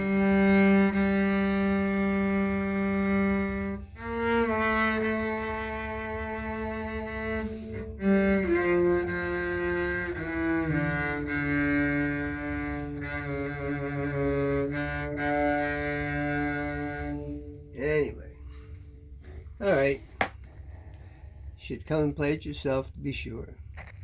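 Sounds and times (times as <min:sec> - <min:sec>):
bowed double bass: 0:00.0 - 0:21.6.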